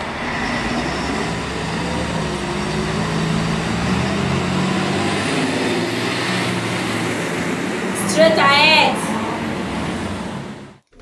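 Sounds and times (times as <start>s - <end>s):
fire truck engine droning: 0.0s - 10.8s
road noise: 0.0s - 10.8s.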